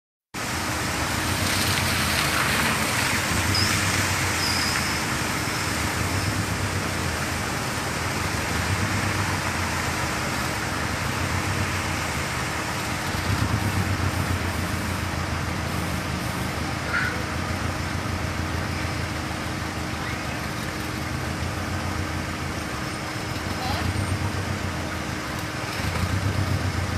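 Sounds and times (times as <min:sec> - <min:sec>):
cars driving through water: 0:00.4 - 0:26.9
rain hissing: 0:00.4 - 0:26.9.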